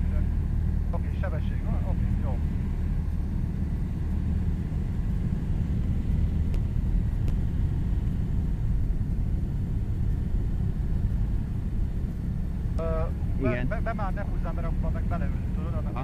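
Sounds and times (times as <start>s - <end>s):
aircraft engine idling: 0.0s - 16.0s.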